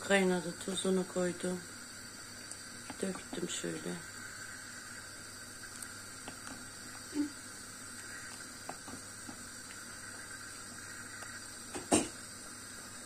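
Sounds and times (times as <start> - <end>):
water boiling in a pot: 0.0 - 13.0.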